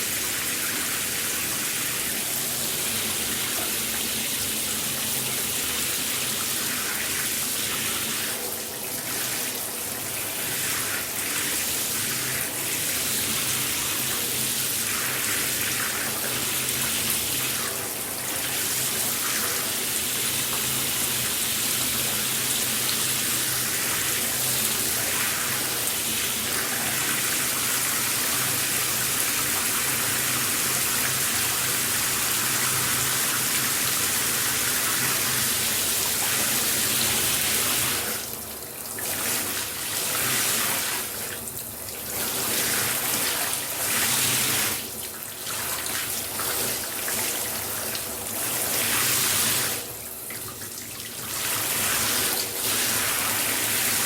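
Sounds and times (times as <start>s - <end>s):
shower spraying water: 0.0s - 54.0s.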